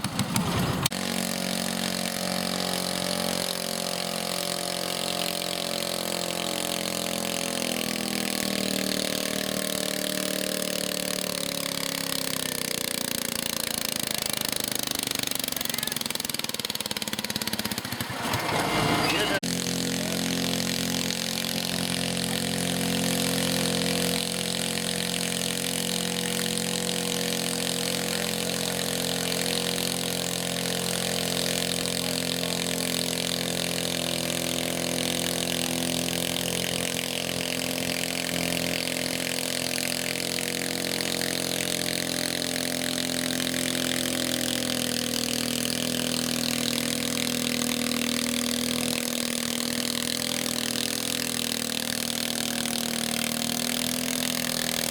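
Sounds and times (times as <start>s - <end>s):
garden tractor engine running: 0.0s - 54.9s.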